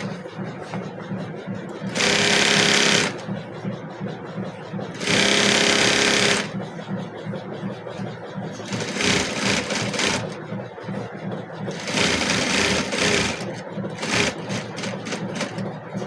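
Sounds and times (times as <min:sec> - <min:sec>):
small machine chattering: 0:01.3 - 0:16.0.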